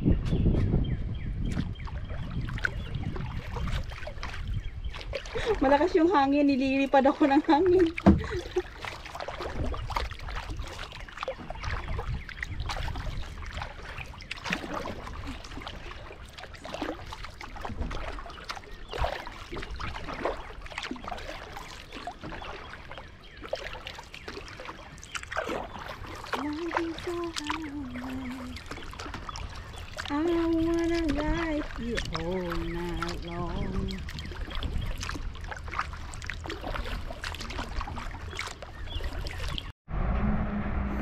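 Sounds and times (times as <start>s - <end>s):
wind on microphone: 0.0s - 21.4s, 25.4s - 41.0s
kayak paddle splashes and drips: 1.4s - 39.8s.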